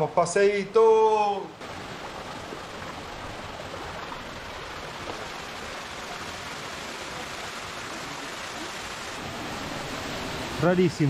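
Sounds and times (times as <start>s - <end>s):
waterfall splashing into pool: 1.6s - 11.0s.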